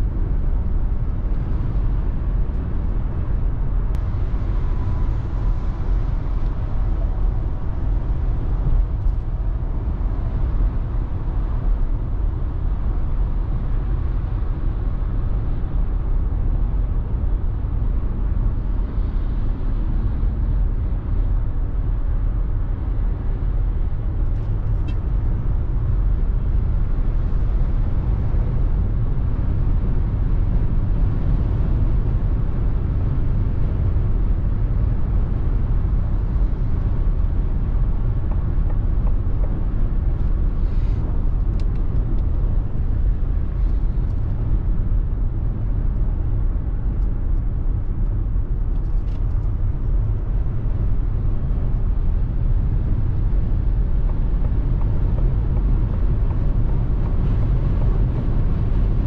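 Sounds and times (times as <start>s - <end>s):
tyre and wind rumble in car: 0.0s - 59.0s.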